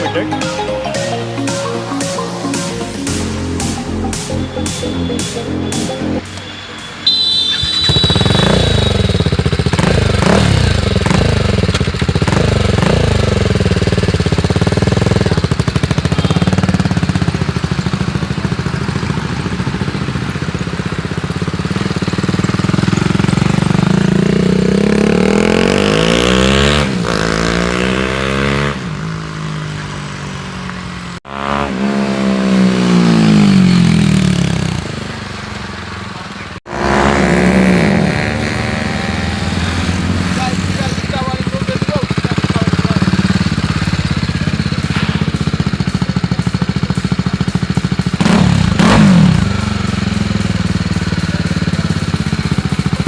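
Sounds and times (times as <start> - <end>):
motorcycle engine revving: 2.7 - 53.0
motorcycle passing by: 4.7 - 53.0.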